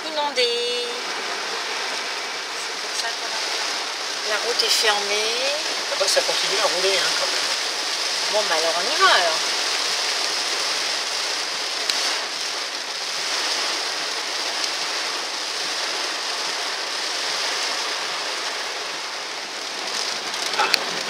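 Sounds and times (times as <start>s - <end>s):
heavy rain on car roof: 0.0s - 21.0s.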